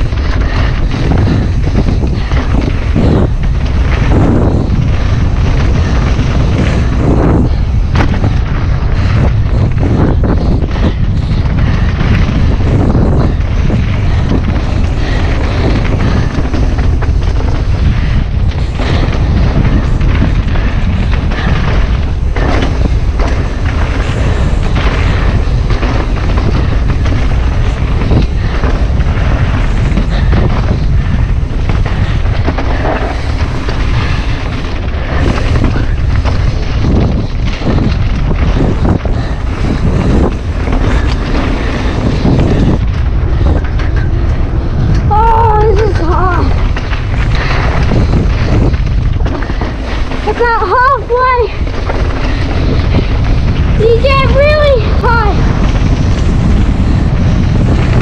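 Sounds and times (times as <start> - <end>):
bike knocks and rattles: 0.0 - 58.0
wind buffeting microphone: 0.0 - 58.0.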